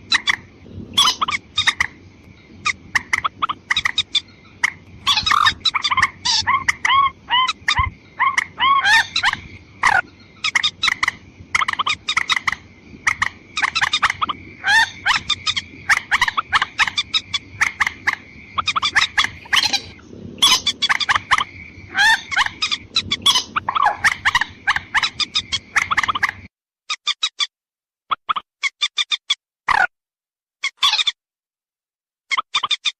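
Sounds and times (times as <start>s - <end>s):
bird clucking calls: 0.0s - 26.5s.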